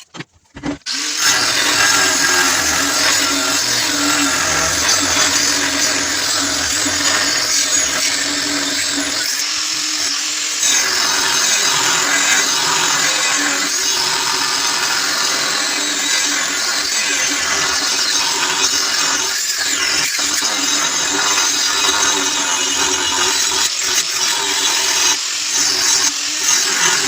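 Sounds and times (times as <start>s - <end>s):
angle grinder cutting steel: 0.9s - 27.0s.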